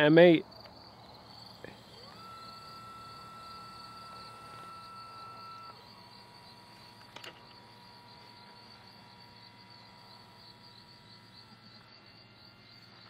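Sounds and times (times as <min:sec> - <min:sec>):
crickets chirping: 0:00.0 - 0:13.0
telescope mount motors whining: 0:00.0 - 0:13.0.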